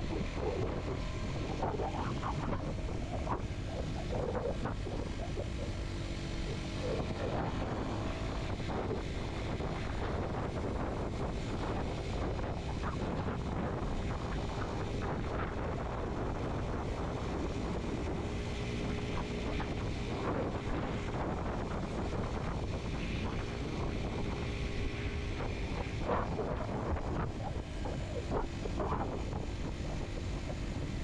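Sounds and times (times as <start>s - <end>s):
motorcycle engine running: 0.0s - 31.0s
wind noise on microphone: 0.0s - 31.0s.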